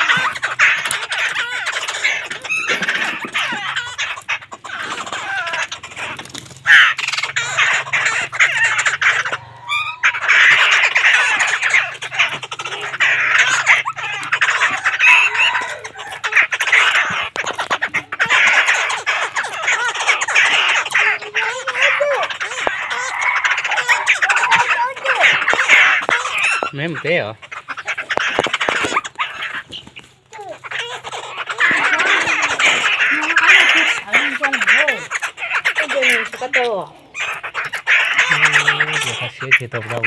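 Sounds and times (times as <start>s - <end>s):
caged birds calling: 0.0s - 40.0s.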